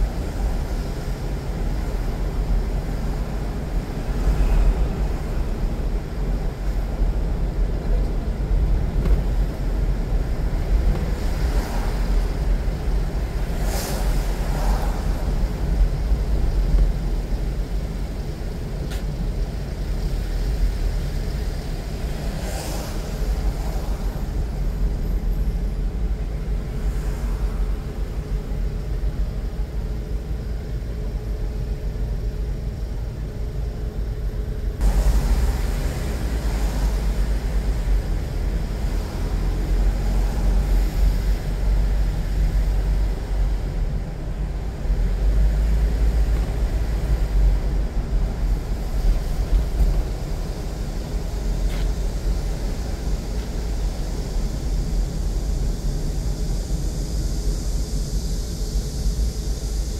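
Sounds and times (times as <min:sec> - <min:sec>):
road and engine rumble: 0:00.0 - 0:59.9.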